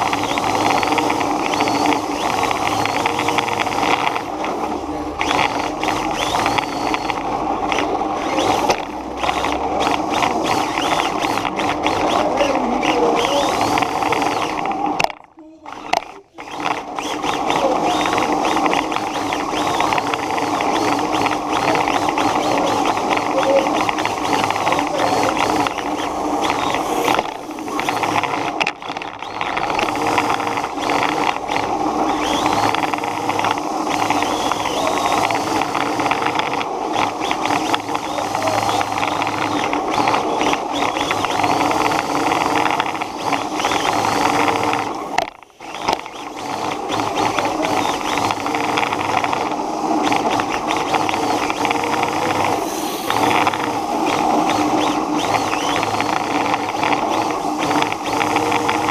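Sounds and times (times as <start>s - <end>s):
radio-controlled car driving: 0.0s - 58.9s.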